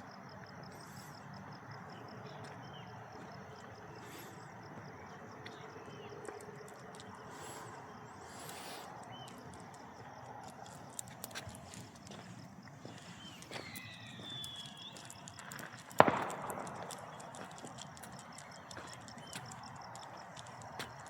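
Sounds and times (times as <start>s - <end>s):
small birds chirping: 0.7s - 21.0s.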